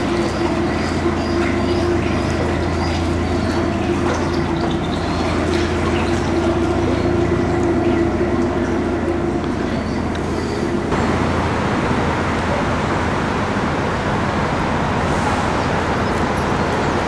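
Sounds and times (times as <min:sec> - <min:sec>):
boat engine low hum: 0:00.0 - 0:17.0.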